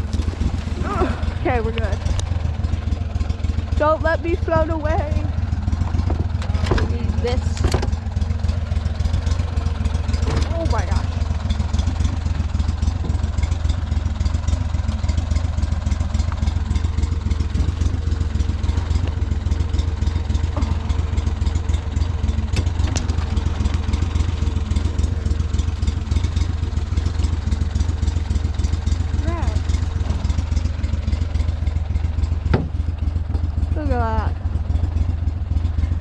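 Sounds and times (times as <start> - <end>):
small boat motor running: 0.0 - 36.0.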